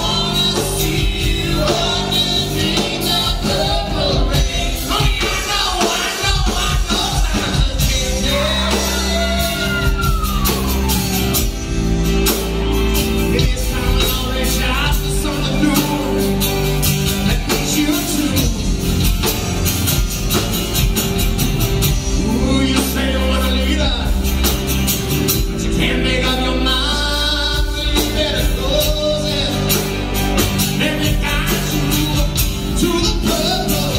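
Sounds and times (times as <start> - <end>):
sung vocals: 0.0 - 11.4, 13.1 - 19.2, 22.0 - 24.4, 25.3 - 33.9
live band playing: 0.0 - 33.9.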